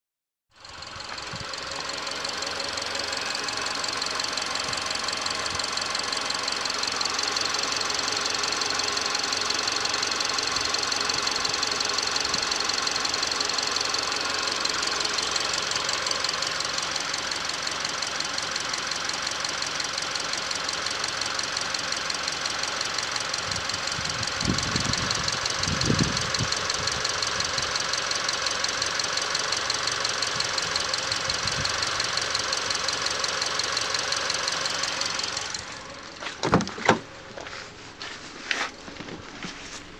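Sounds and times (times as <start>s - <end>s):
car engine idling with ticking: 0.5s - 39.9s.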